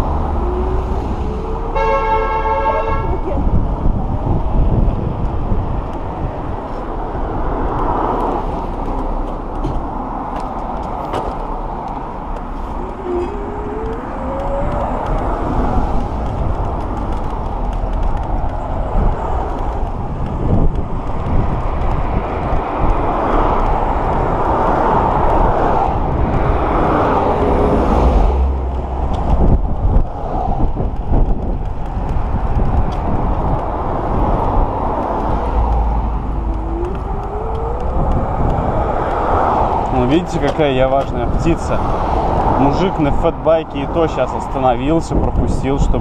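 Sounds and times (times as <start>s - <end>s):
road traffic noise: 0.0s - 46.0s
wind buffeting microphone: 0.0s - 46.0s.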